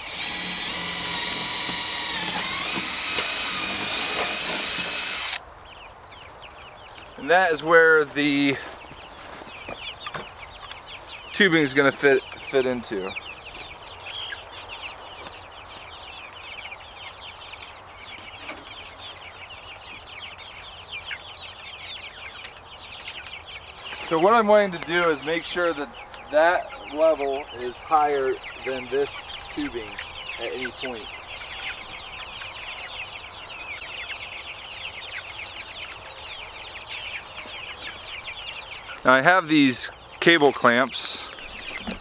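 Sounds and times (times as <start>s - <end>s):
high insect drone: 0.0s - 18.2s, 18.8s - 40.2s
chicks peeping: 0.0s - 42.0s.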